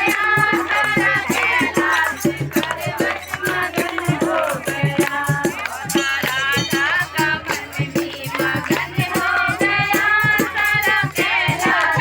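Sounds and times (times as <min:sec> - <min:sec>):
percussion beat: 0:00.0 - 0:12.0.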